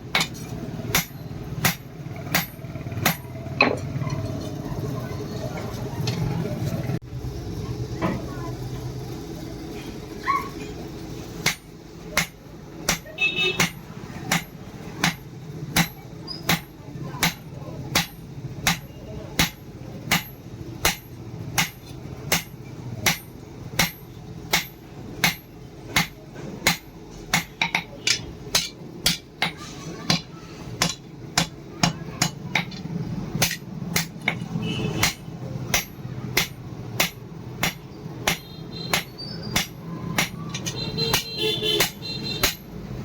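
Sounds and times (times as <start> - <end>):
hammer striking steel on anvil: 0.1 - 3.8, 11.4 - 42.8.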